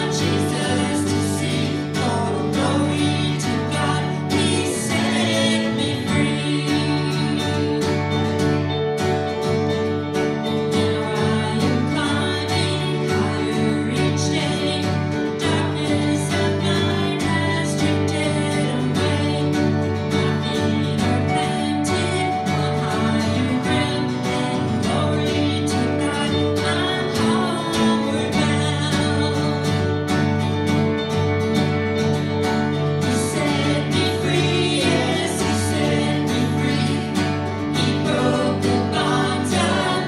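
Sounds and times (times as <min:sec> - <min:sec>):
woman singing into a microphone: 0:00.0 - 0:08.2, 0:10.7 - 0:30.3, 0:33.0 - 0:40.0
acoustic guitar strumming: 0:00.0 - 0:40.0.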